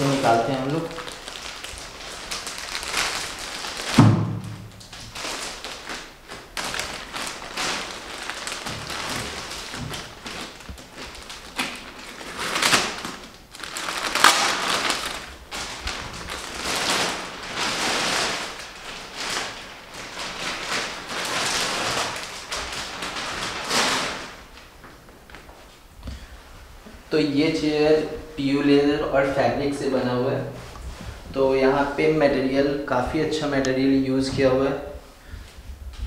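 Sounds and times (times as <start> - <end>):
plastic wrapping crinkling: 0.0 - 36.0.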